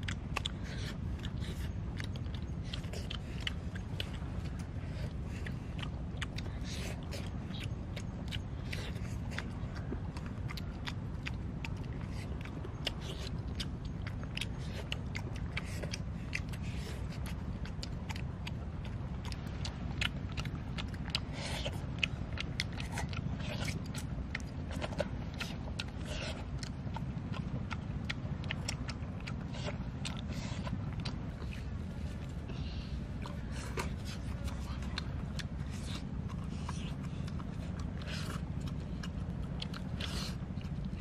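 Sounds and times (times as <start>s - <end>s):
mouth clicks: 0.0s - 41.0s
steady low hum: 0.0s - 41.0s
wet chewing and lip-smacking: 0.0s - 41.0s.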